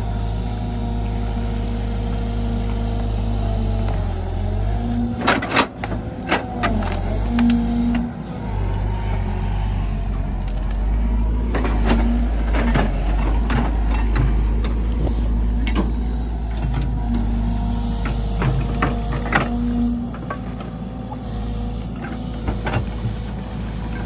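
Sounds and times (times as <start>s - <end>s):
excavator diesel engine running: 0.0s - 24.0s
hydraulic whine: 0.0s - 24.0s.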